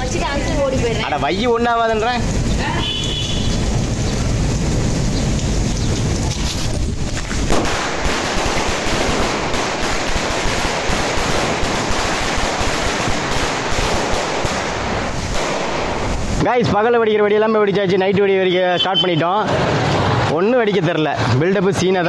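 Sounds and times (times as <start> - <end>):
firecrackers banging rapidly: 0.0 - 18.5.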